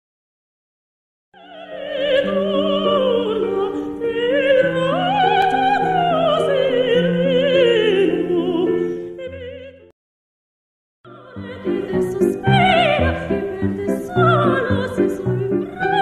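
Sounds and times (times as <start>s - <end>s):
woman singing operatically: 1.4s - 9.9s, 11.1s - 16.0s.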